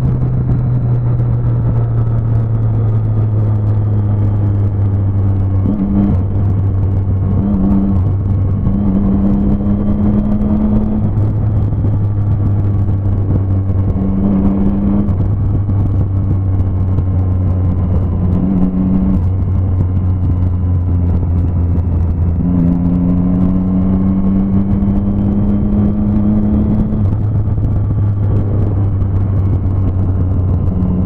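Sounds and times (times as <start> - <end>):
motorcycle engine cruising: 0.0 - 31.0
road and wind noise: 0.0 - 31.0.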